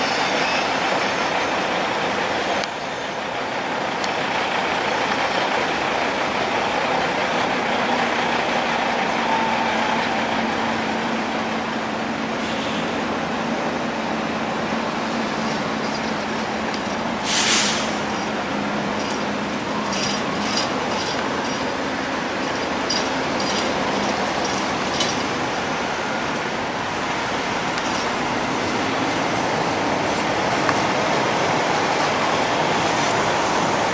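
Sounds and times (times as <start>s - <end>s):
truck engine and tyre noise: 0.0s - 33.9s.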